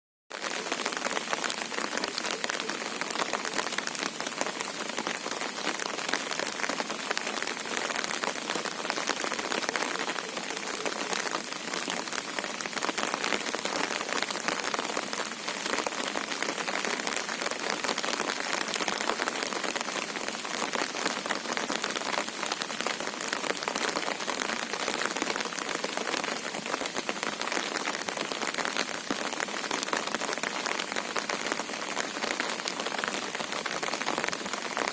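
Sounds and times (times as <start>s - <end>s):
heavy rain falling: 0.3s - 34.9s.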